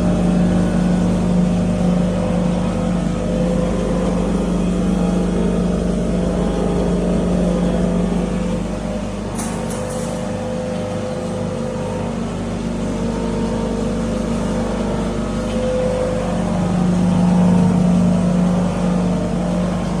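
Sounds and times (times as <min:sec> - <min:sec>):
feed grinder machine humming: 0:00.0 - 0:20.0.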